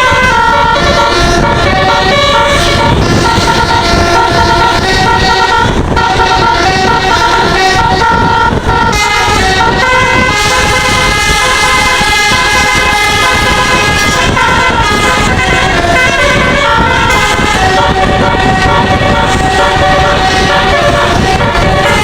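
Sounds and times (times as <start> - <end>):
loud continuous rumble: 0.0 - 22.0
musical air horn playing a tune: 0.0 - 22.0.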